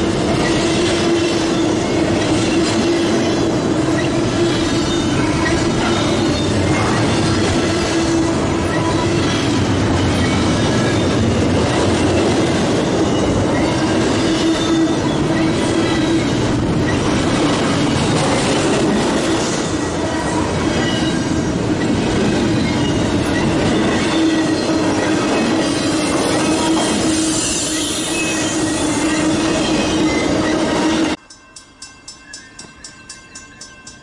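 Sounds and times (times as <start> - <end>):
freight train wheels on rail: 0.0 - 34.0.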